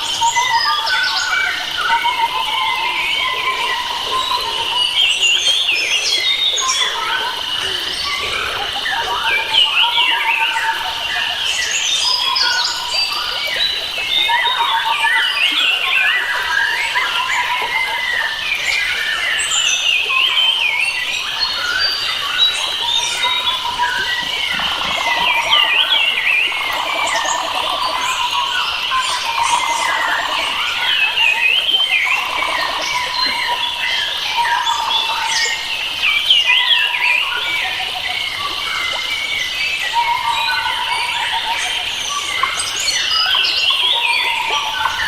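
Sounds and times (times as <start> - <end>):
birds singing and chirping: 0.0 - 45.0.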